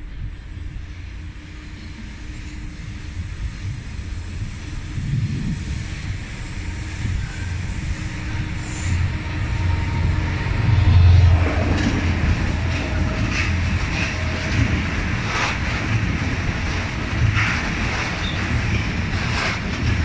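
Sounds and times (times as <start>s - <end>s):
diesel locomotive engine rumble: 0.0s - 20.0s
train wheels clacking on rails: 0.0s - 20.0s.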